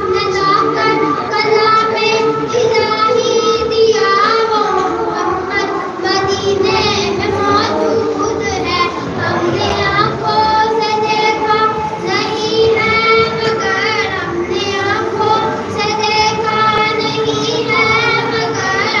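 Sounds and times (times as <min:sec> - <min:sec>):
boy chanting into a microphone: 0:00.0 - 0:19.0.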